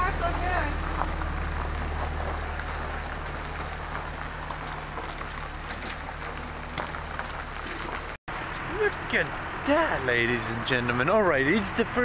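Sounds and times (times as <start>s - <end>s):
vehicle cabin road noise: 0.0s - 12.0s.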